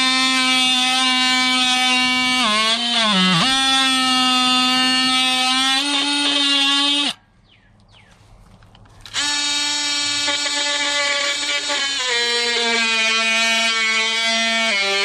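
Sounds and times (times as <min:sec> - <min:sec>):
oscillating multi-tool buzzing: 0:00.0 - 0:07.2, 0:09.1 - 0:15.0.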